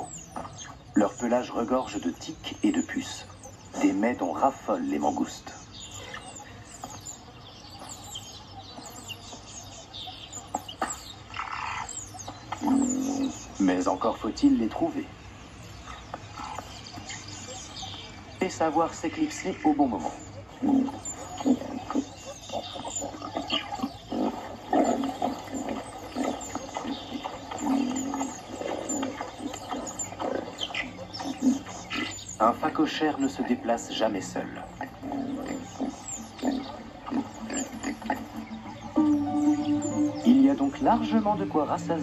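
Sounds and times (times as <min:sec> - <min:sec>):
animals grunting: 0:00.0 - 0:42.0
birds chirping: 0:00.0 - 0:42.0.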